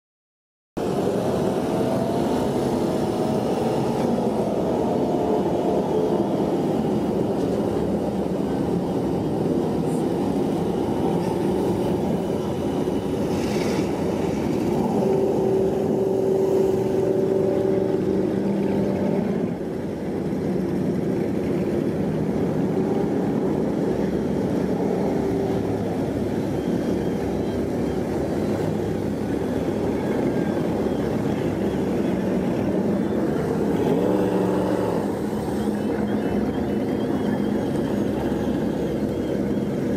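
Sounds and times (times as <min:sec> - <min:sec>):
boat engines droning: 0:00.8 - 0:39.9.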